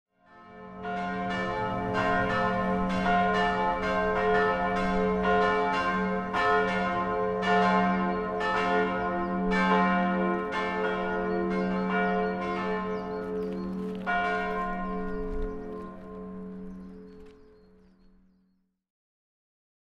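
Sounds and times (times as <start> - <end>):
church bells ringing: 0.2 - 18.2.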